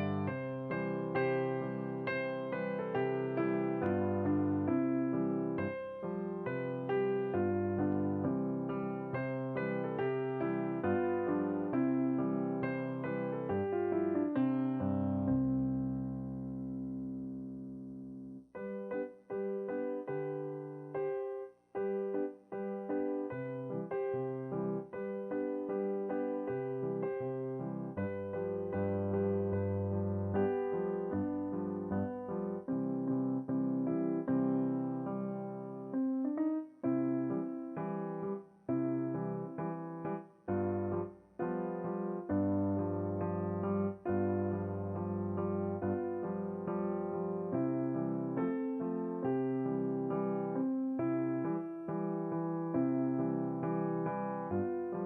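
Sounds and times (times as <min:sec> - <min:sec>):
gentle piano chords: 0:00.0 - 0:55.0.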